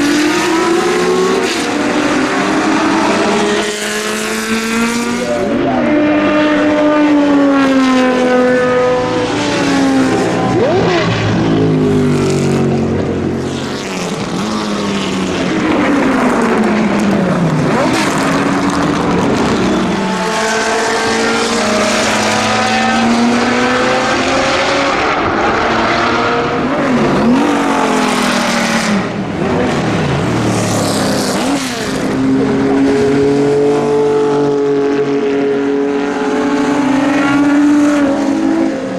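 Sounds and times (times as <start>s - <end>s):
race car engines revving: 0.0s - 38.9s.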